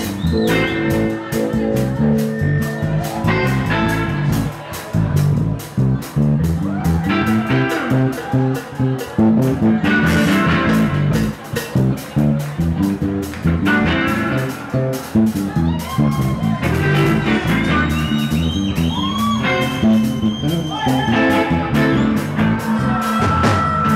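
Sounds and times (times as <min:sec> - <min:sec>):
bass guitar notes: 0:00.0 - 0:23.9
electric guitar: 0:00.0 - 0:23.9
steady drum beat: 0:00.0 - 0:23.9.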